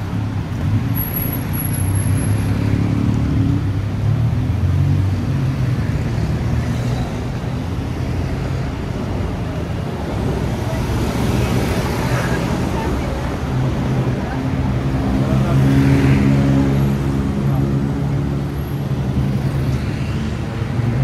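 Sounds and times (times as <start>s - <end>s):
road noise: 0.0s - 21.0s
vehicle engines humming: 0.0s - 21.0s.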